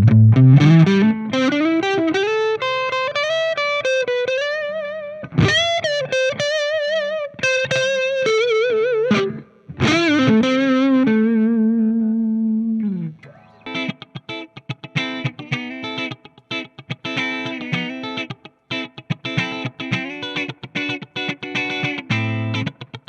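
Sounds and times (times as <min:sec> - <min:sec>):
electric guitar lead line: 0:00.0 - 0:23.0.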